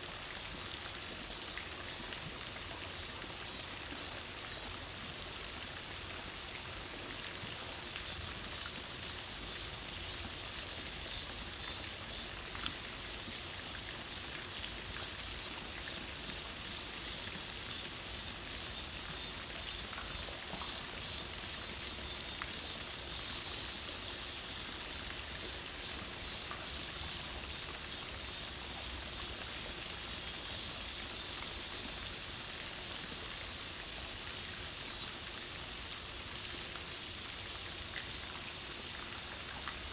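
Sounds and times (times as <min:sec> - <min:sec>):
high-pitched outdoor hiss: 0:00.0 - 0:39.9.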